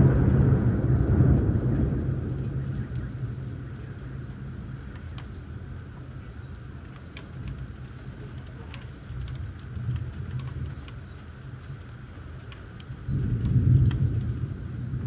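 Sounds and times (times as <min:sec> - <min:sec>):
low thunder rumble: 0:00.0 - 0:15.0.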